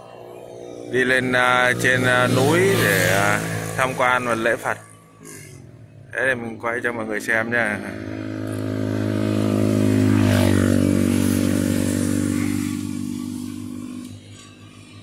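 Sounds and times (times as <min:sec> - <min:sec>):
scooter engine running: 0:00.0 - 0:06.1, 0:07.6 - 0:15.0.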